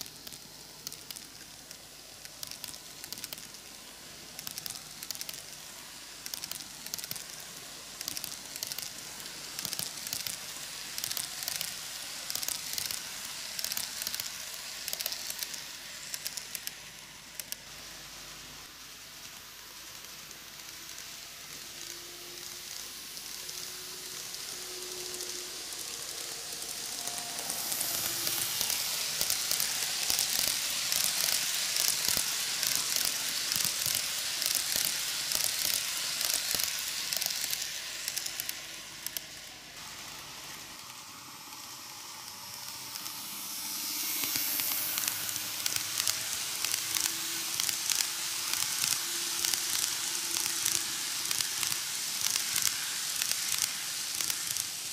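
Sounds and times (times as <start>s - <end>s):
model train wheels rattling on rails: 0.0s - 54.9s.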